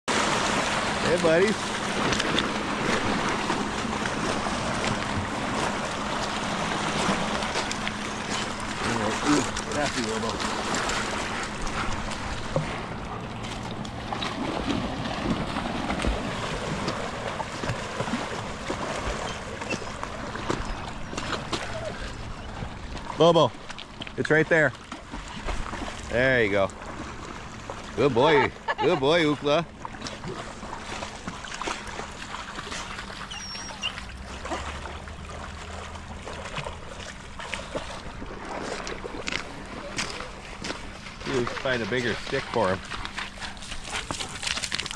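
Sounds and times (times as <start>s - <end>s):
dogs splashing in water: 0.1s - 44.9s
water sloshing: 0.1s - 44.9s.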